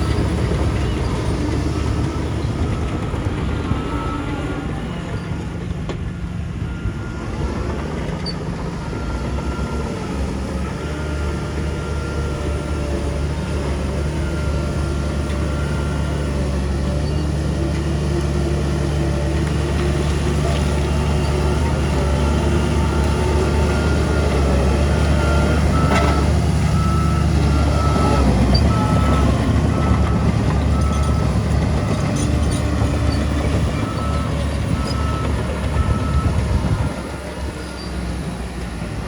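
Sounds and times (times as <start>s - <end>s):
reversing alarm beeping: 0.0s - 5.7s, 6.6s - 17.6s, 20.2s - 38.3s
heavy machinery diesel engine: 0.0s - 39.0s.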